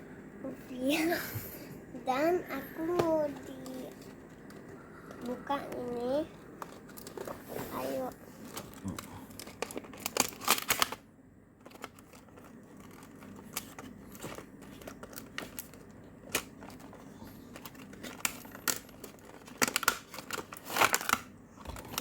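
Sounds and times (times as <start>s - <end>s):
plastic and cardboard crinkling: 2.6s - 11.0s, 11.6s - 22.0s.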